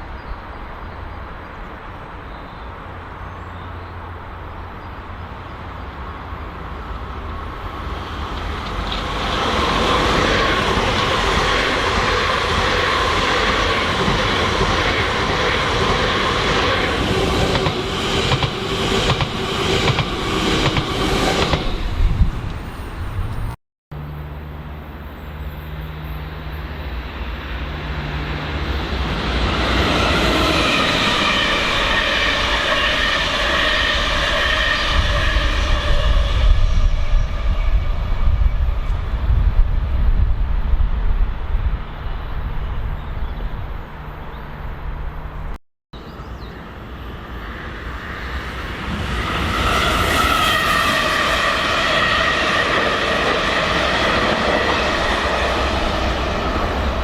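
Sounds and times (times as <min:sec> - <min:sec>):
multi-tone train whine: 0:00.0 - 0:57.0
train wheels rumbling on track: 0:03.9 - 0:23.6, 0:25.4 - 0:45.6, 0:46.8 - 0:57.0.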